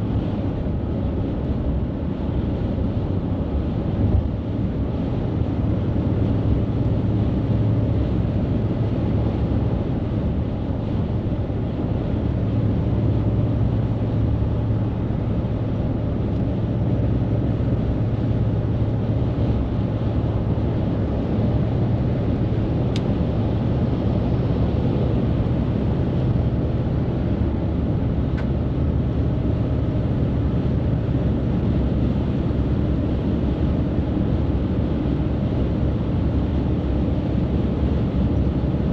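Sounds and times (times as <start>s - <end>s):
highway traffic rumble: 0.0s - 38.9s.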